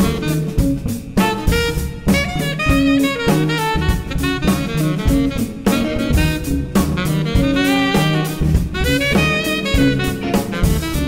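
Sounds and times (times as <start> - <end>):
bass: 0.0 - 11.0
drum kit: 0.0 - 11.0
horn lines: 0.0 - 11.0
jazz band playing: 0.0 - 11.0.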